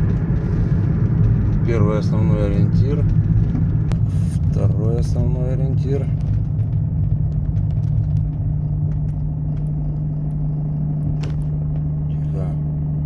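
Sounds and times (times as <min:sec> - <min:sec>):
car driving at highway speed: 0:00.0 - 0:13.0.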